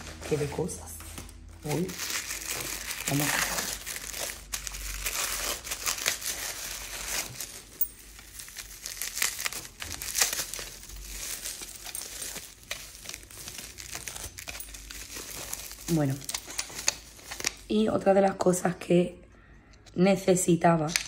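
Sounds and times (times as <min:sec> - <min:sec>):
paper and bubble wrap crinkling: 0:00.0 - 0:17.8.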